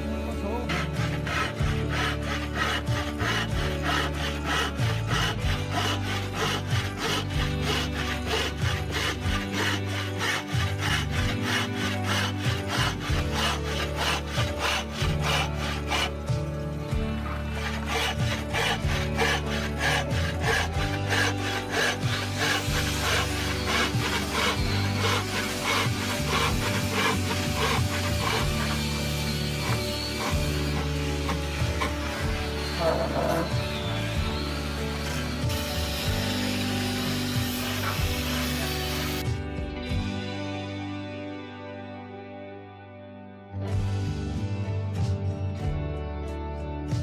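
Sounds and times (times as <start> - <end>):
hand saw cutting wood: 0.0 - 39.4
background music: 0.0 - 47.0.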